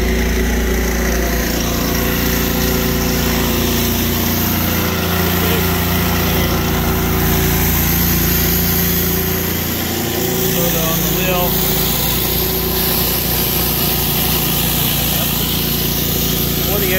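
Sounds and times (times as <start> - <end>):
pressure washer engine running: 0.0 - 16.9.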